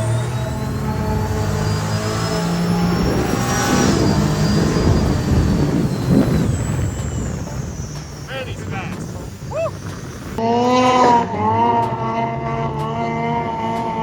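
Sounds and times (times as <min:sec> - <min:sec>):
snowmobile engine running hard: 0:00.0 - 0:14.0.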